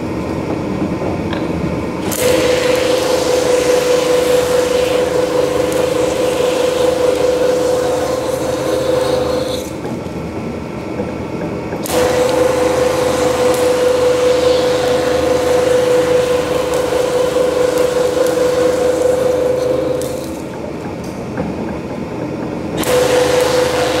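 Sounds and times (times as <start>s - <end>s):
rough mechanical noise: 0.0s - 24.0s
rubber mill whine: 0.0s - 24.0s.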